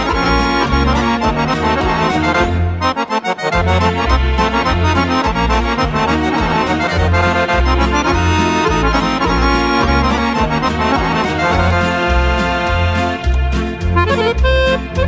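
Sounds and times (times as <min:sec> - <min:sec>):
instrumental music with pulsing bass: 0:00.0 - 0:15.0.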